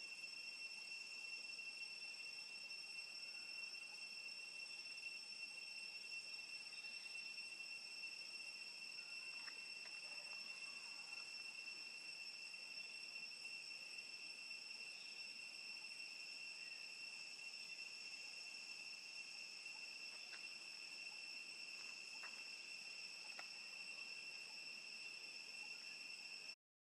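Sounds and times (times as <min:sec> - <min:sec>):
insect chorus drone: 0:00.0 - 0:26.6.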